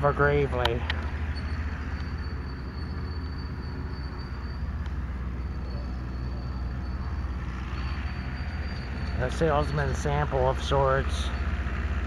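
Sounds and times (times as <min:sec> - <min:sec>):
faint high whine: 0:00.0 - 0:11.5
low outdoor rumble: 0:00.0 - 0:12.0.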